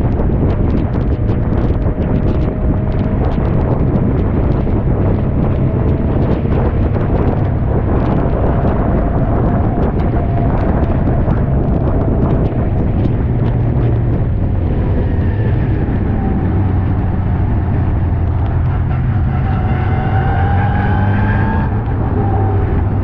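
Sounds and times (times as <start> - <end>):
race car engine running: 0.0 - 23.0
wind buffeting microphone: 0.0 - 23.0.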